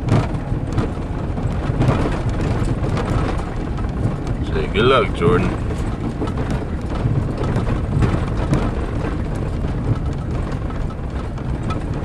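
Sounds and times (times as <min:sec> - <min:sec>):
engine and road rumble: 0:00.0 - 0:12.0
small rattles and knocks: 0:00.0 - 0:12.0.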